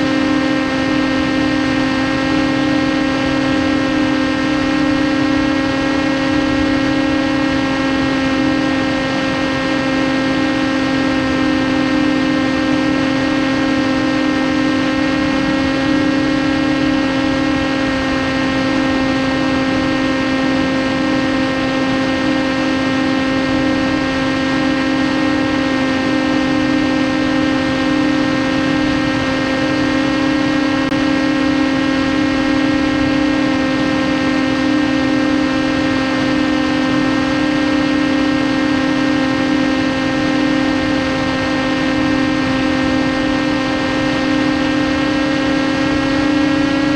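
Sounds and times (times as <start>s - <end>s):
electric motor whine: 0.0s - 46.9s.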